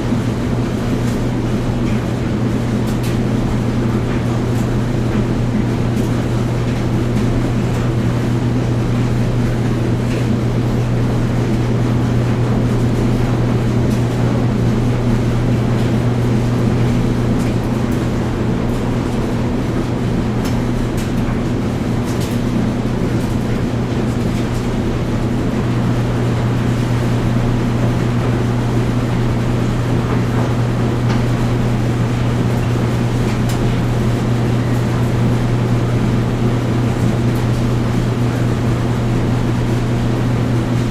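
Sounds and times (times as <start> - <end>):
washing machine and dryer hum: 0.0 - 40.9.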